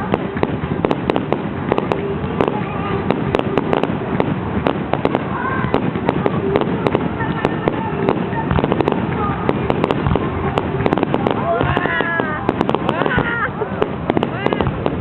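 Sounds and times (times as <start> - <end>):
continuous rumbling noise: 0.0 - 15.0
fireworks bangs and crackling pops: 0.0 - 15.0.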